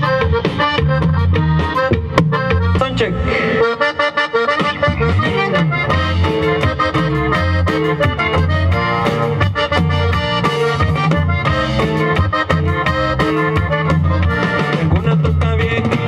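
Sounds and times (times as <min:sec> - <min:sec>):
accordion-like lead melody: 0:00.0 - 0:16.0
guitar: 0:00.0 - 0:16.0
steady bass line: 0:00.0 - 0:16.0.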